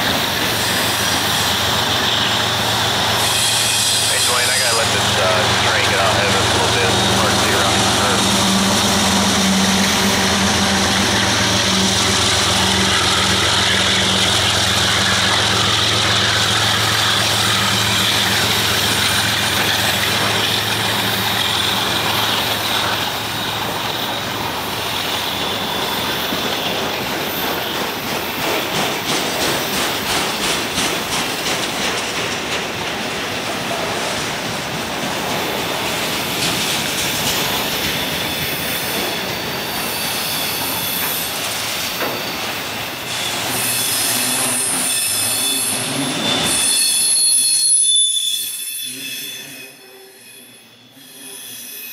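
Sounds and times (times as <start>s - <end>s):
freight cars rolling past: 0.0s - 46.6s
wheels clickety-clack on track: 0.0s - 46.7s
diesel locomotive engine drone: 0.0s - 48.0s.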